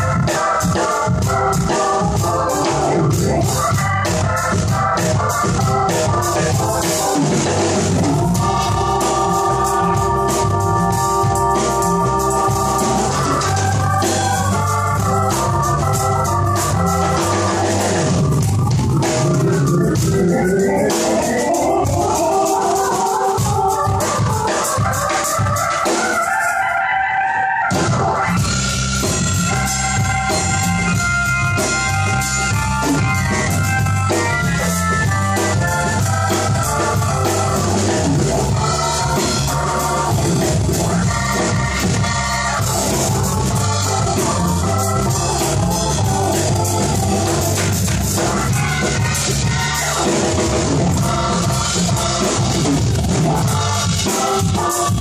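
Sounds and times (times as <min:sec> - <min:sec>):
steady beat: 0:00.0 - 0:26.2, 0:27.7 - 0:55.0
electronic organ chords: 0:00.0 - 0:55.0.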